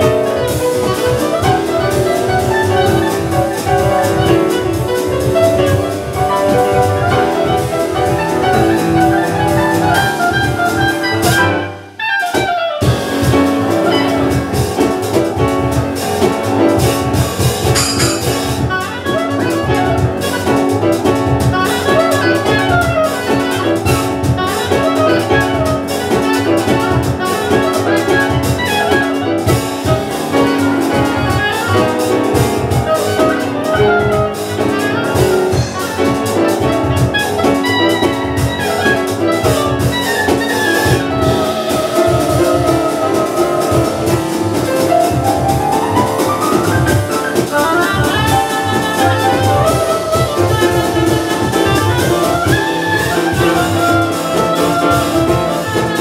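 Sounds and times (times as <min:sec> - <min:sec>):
double bass: 0:00.0 - 0:56.0
drums: 0:00.0 - 0:56.0
oboe melody: 0:00.0 - 0:56.0
piano: 0:00.0 - 0:56.0.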